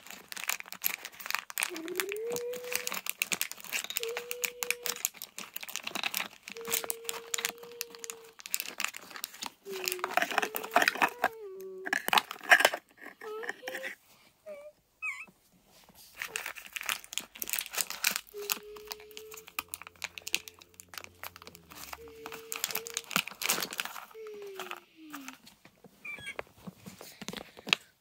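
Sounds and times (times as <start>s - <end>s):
paper crackling: 0.0s - 13.9s, 16.0s - 25.6s.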